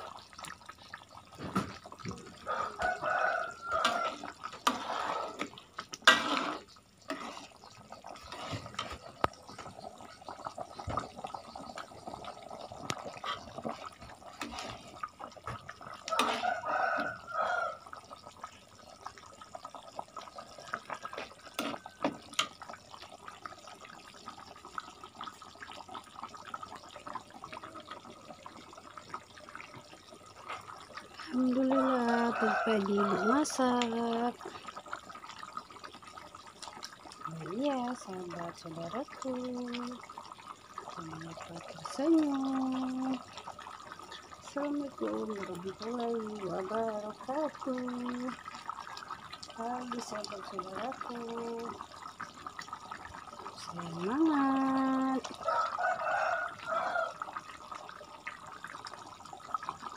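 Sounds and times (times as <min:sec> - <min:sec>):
sauce sloshing and bubbling: 0:00.0 - 0:59.9.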